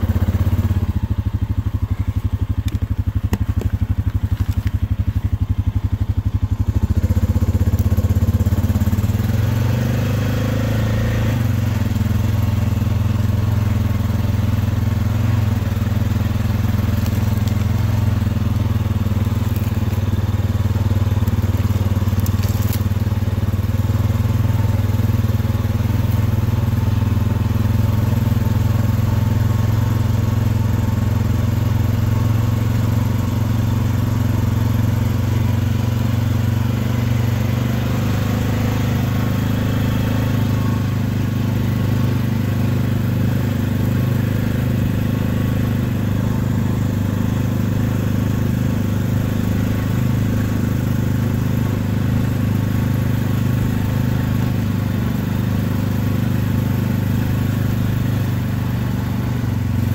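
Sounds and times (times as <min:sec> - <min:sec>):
quad bike engine droning: 0:00.0 - 0:59.9.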